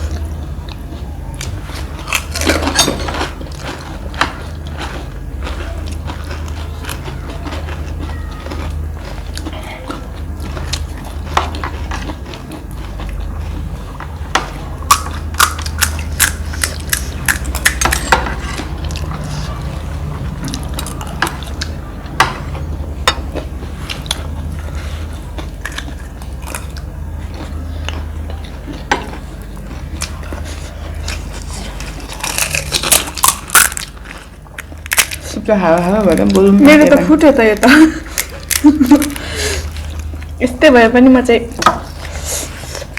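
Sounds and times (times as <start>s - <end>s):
crunching and chewing crisp food: 0.0s - 42.9s
steady low hum: 0.0s - 42.9s.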